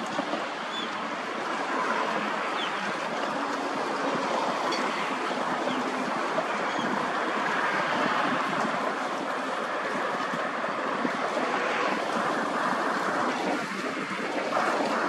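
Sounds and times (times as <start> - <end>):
rushing water ambience: 0.0 - 15.0.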